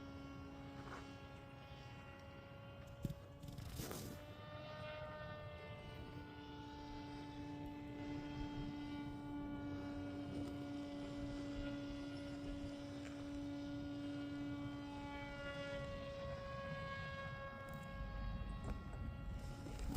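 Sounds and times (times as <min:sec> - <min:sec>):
model airplane motor droning: 0:00.0 - 0:19.9.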